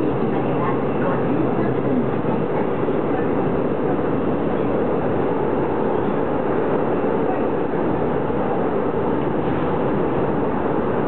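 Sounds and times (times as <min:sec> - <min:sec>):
train running noise inside car: 0:00.0 - 0:11.0.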